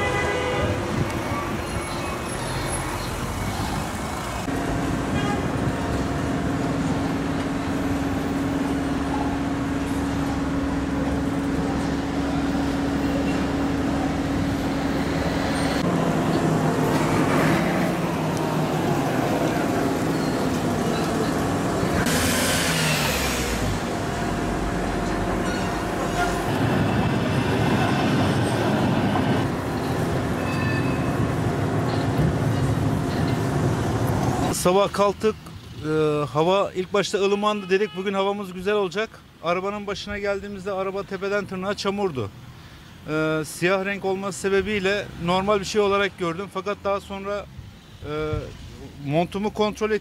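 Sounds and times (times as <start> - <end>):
vehicles running and passing: 0.0 - 50.0.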